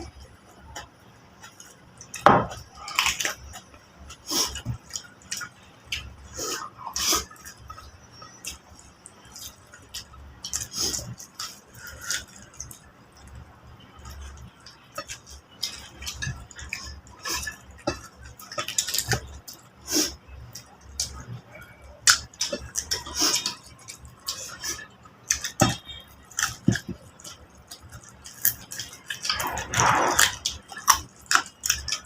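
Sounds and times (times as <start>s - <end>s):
people chewing and biting: 0.0s - 32.0s.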